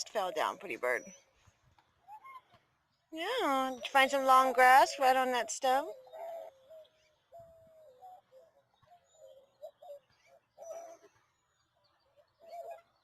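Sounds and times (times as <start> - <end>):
cooing bird calls: 0.0 - 1.3, 2.0 - 2.6, 3.3 - 13.0.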